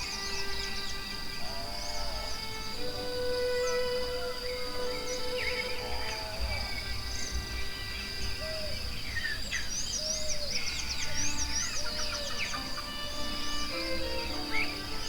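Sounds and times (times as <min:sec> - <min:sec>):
soft background music: 0:00.0 - 0:08.8, 0:10.2 - 0:15.0
birds chirping and singing: 0:00.0 - 0:15.0.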